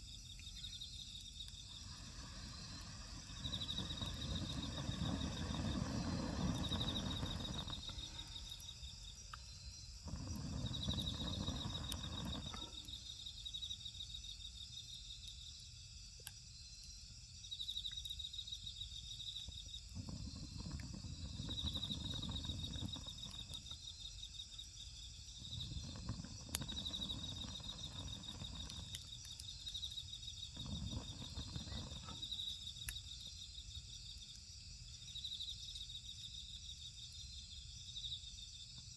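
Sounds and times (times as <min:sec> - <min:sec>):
insects trilling: 0:00.0 - 0:38.9
steady insect hum: 0:00.0 - 0:38.9.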